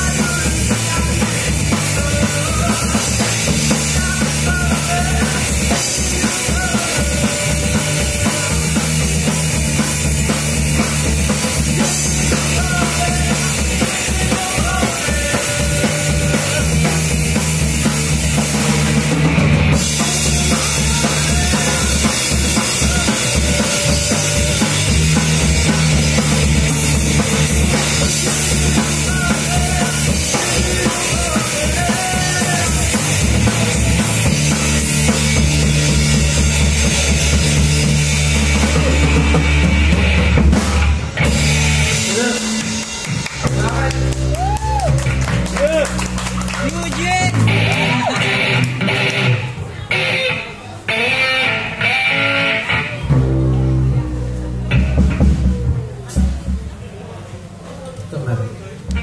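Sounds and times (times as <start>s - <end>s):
drum kit beat: 0.0s - 50.3s, 51.8s - 57.0s
electric guitar: 0.0s - 58.1s, 58.8s - 59.0s
bass guitar: 0.0s - 59.0s.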